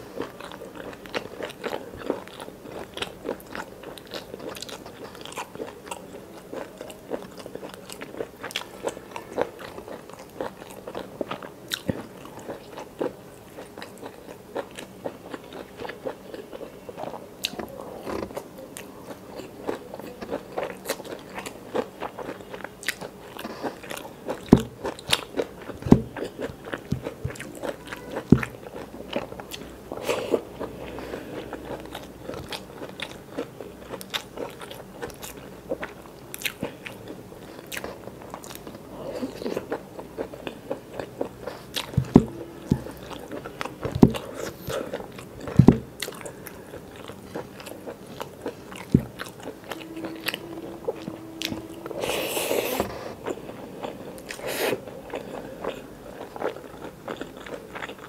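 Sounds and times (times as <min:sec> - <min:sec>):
person chewing and crunching: 0:00.0 - 0:58.0.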